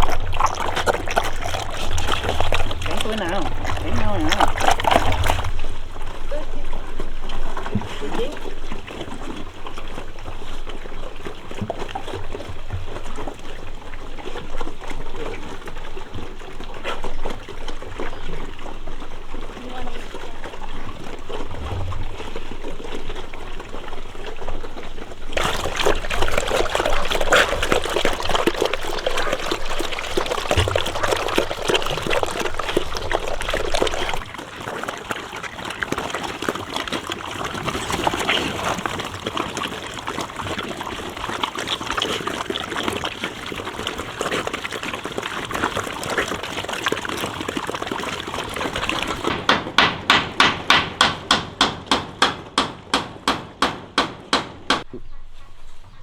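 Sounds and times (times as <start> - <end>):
water running and splashing: 0.0 - 49.4.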